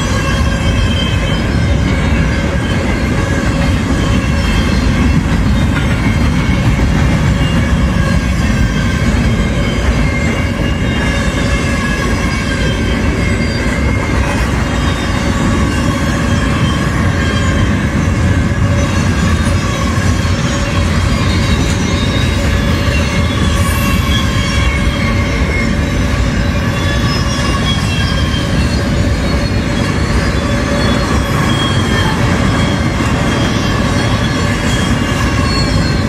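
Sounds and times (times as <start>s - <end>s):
freight train wheels rumbling: 0.0s - 36.0s
high tones from train wheels: 0.0s - 36.0s.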